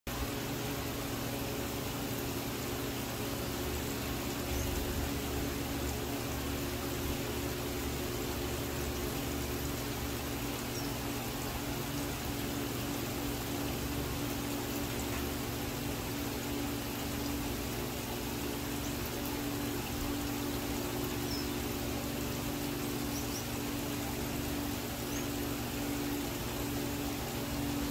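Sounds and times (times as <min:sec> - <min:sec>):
steady low hum: 0:00.1 - 0:27.9.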